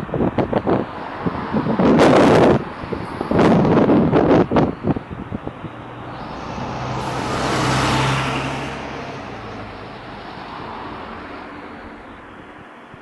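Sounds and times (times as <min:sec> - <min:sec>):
vehicle passing by: 0:00.7 - 0:11.9.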